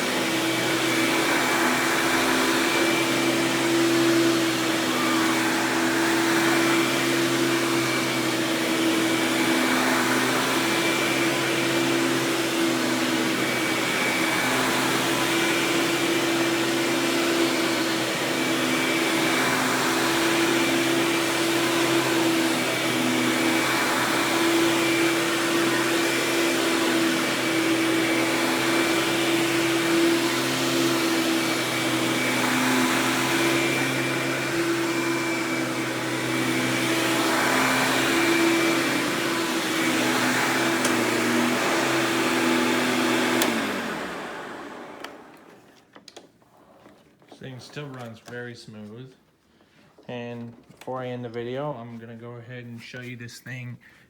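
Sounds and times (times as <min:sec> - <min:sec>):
upright vacuum running: 0:00.0 - 0:48.4.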